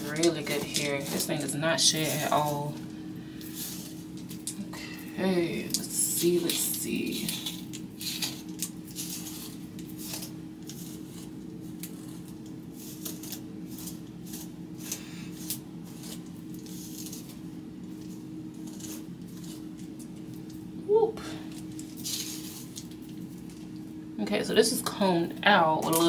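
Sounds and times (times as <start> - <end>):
comb through wet hair: 0.0 - 23.6
steady low hum: 0.0 - 26.0.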